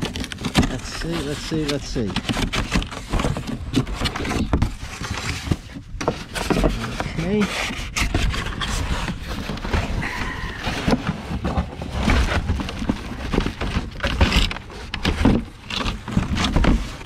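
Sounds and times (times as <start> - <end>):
cardboard box rustling: 0.0 - 17.0.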